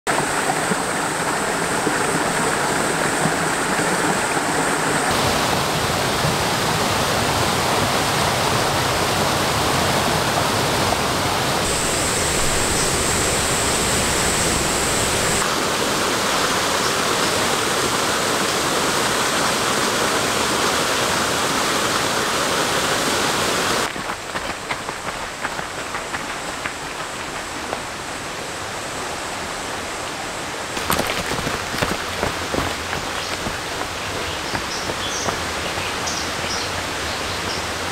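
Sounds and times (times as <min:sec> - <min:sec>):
stream water rushing: 0:00.1 - 0:37.9.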